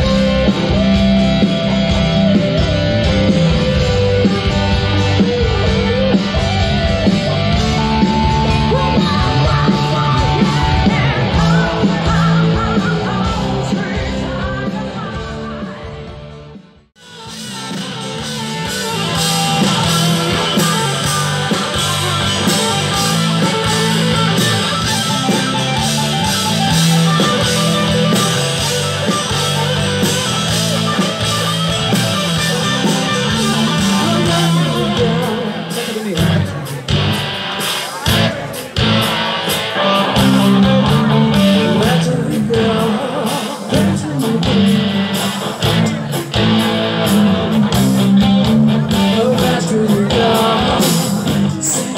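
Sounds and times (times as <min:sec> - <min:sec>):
live rock band playing loudly: 0:00.0 - 0:51.9.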